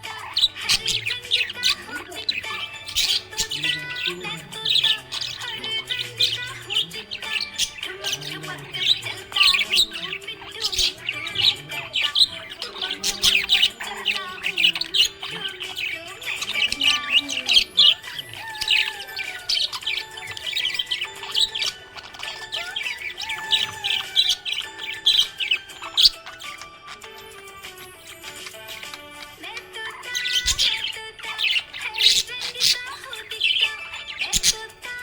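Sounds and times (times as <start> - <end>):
budgerigar chirping and warbling: 0.0 - 35.0
faint background music: 0.0 - 35.0.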